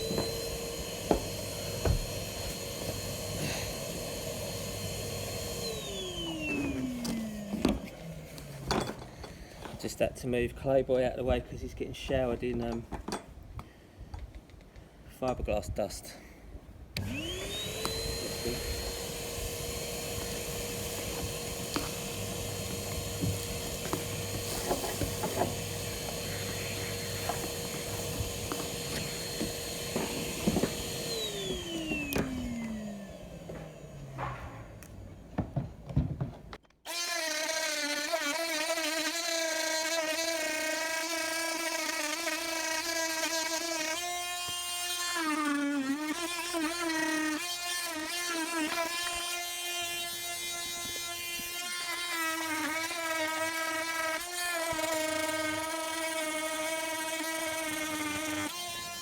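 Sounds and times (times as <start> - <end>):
oscillating multi-tool whine: 0.0 - 8.2, 17.0 - 34.6, 36.9 - 59.0
power tool running low pitch: 0.0 - 9.0, 17.0 - 35.3, 36.9 - 59.0.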